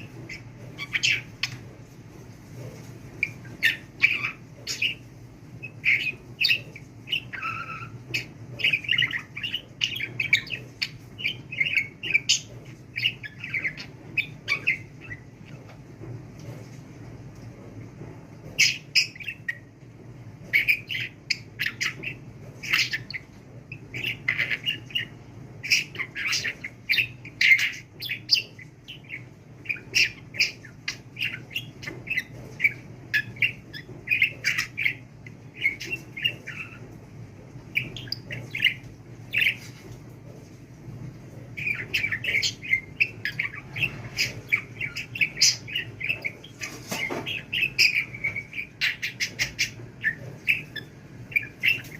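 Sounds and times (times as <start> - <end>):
budgerigar chirping and squawking: 0.0 - 1.8, 2.7 - 15.8, 18.4 - 19.6, 20.4 - 37.0, 37.7 - 39.9, 41.6 - 51.9.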